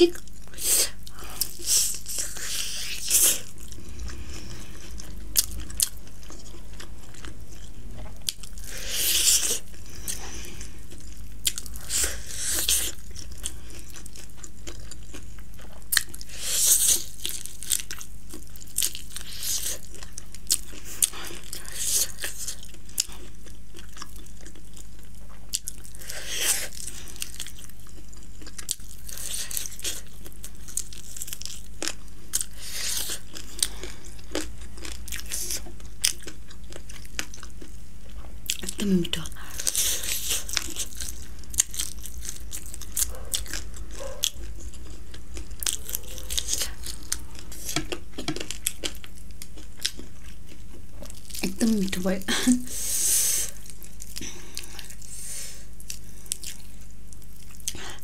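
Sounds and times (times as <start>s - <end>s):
crunchy biting and chewing: 0.2s - 51.5s.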